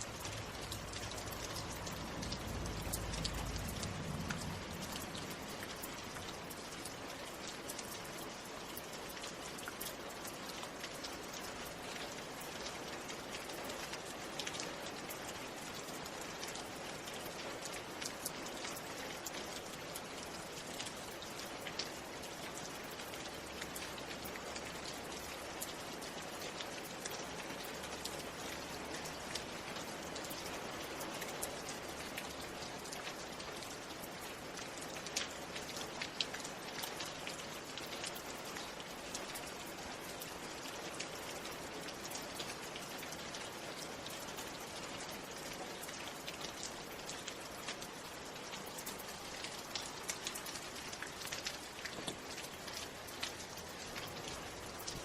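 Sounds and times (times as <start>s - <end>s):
raindrops ticking on a surface: 0.0s - 55.0s
steady rain hissing: 0.0s - 55.0s.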